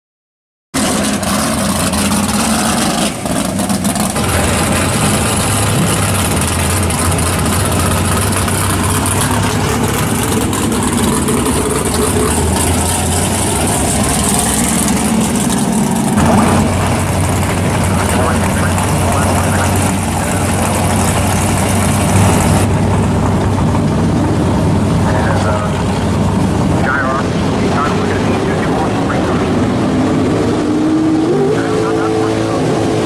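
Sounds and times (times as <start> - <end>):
car engines rumbling: 0.8 - 33.0.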